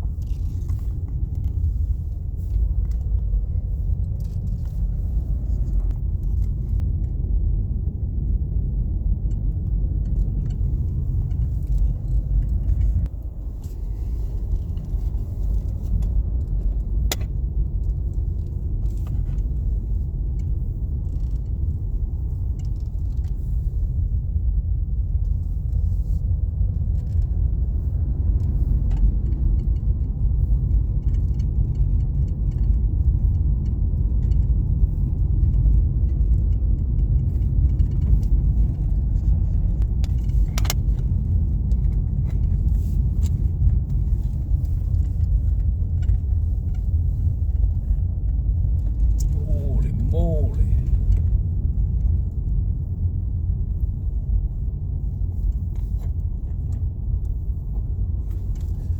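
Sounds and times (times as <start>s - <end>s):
car road and engine rumble: 0.0s - 58.9s
light rattles and ticks: 0.0s - 58.9s.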